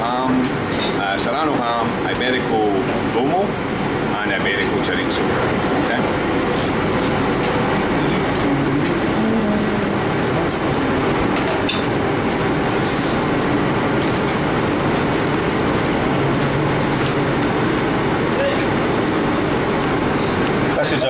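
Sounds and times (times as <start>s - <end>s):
kitchen fans roaring: 0.0s - 21.0s.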